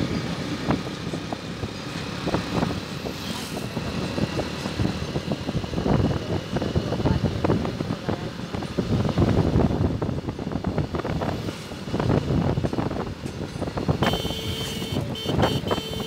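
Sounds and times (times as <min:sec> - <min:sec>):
vehicle travel rumble: 0:00.0 - 0:16.0.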